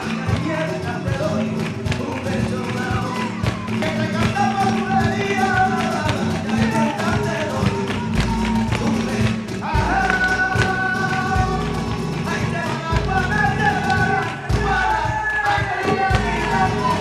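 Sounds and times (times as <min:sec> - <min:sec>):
flamenco music: 0:00.0 - 0:17.0.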